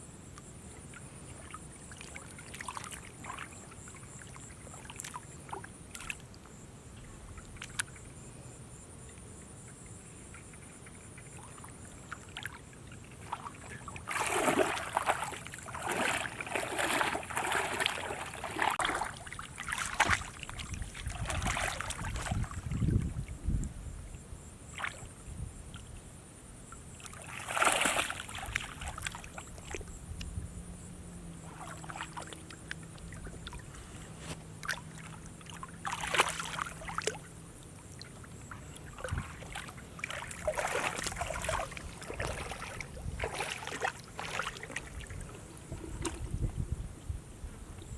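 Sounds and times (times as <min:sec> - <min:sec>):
water splashing and sloshing: 0:00.7 - 0:08.2, 0:09.1 - 0:23.4, 0:24.7 - 0:26.0, 0:26.8 - 0:47.1.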